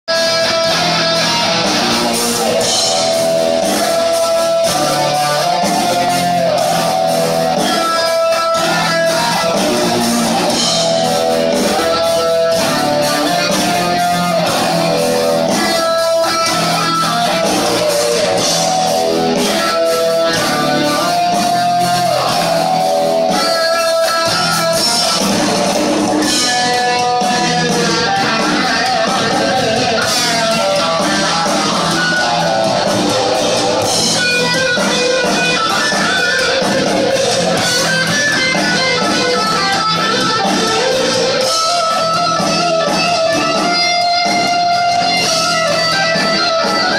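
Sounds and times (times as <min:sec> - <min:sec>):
heavy metal band playing live: 0:00.1 - 0:46.9.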